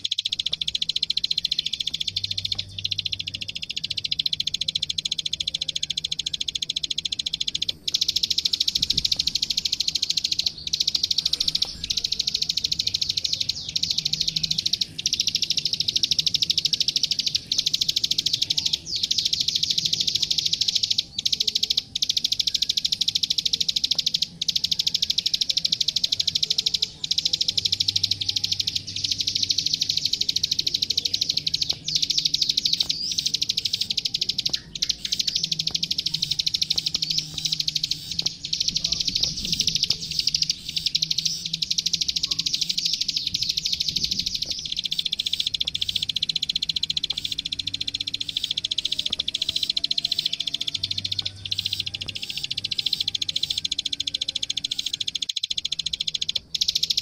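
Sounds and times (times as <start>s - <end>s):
songbird clicking notes: 0.0s - 57.0s.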